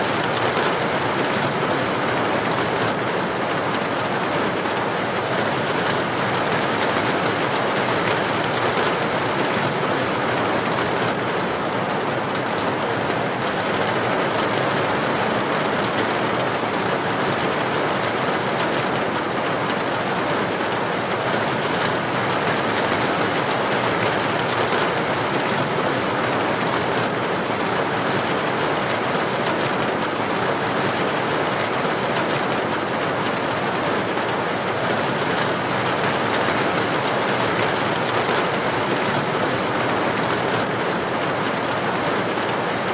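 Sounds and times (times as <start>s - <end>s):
heavy rain pouring on street: 0.0s - 42.9s.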